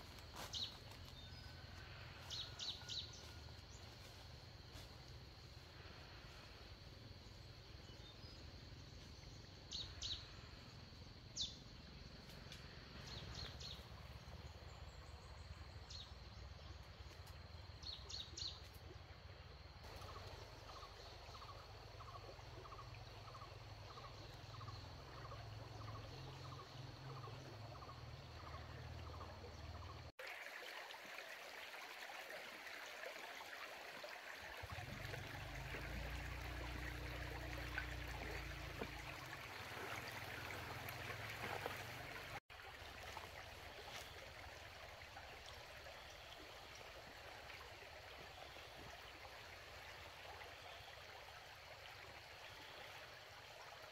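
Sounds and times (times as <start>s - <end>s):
running stream hiss: 0.0s - 53.9s.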